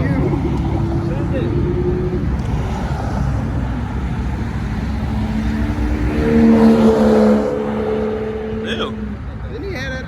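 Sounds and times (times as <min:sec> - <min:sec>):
approaching car engine: 0:00.0 - 0:09.4
car engine running: 0:00.0 - 0:10.0.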